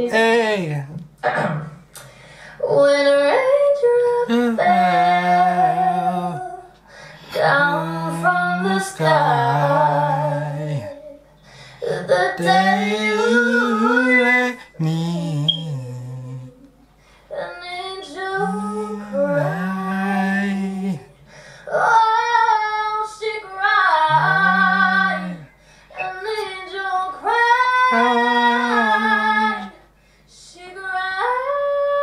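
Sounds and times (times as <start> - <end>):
woman singing: 0.0 - 0.4, 2.6 - 6.7, 7.3 - 16.6, 17.3 - 32.0.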